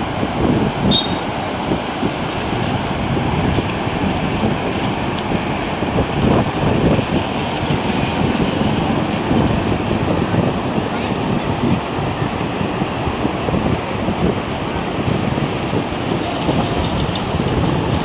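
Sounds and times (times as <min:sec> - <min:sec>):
fast-flowing river rushing: 0:00.0 - 0:18.0.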